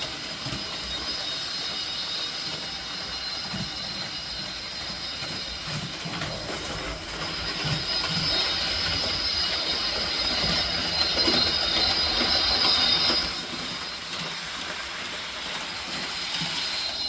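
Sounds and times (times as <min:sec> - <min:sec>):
model train whine: 0:00.0 - 0:17.0
wheels rattling on rails: 0:00.0 - 0:17.0.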